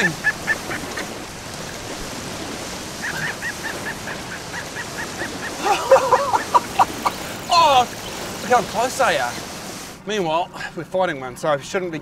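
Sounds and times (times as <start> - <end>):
seabirds chirping: 0.0 - 10.5
sea wash: 0.0 - 10.9
wind: 0.0 - 12.0.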